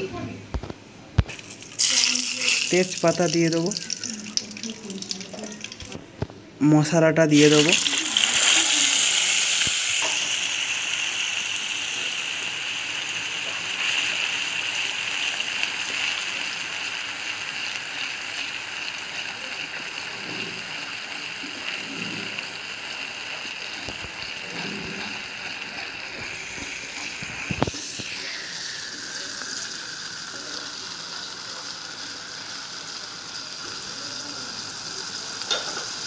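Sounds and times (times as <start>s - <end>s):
paste sizzling in hot oil: 1.3s - 6.0s, 7.2s - 36.0s.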